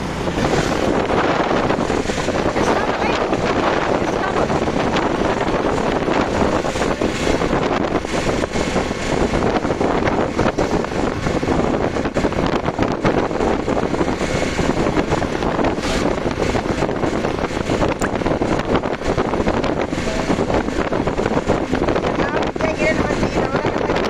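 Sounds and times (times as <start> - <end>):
moving vehicle road noise: 0.0 - 24.0
wind buffeting microphone: 0.0 - 24.0.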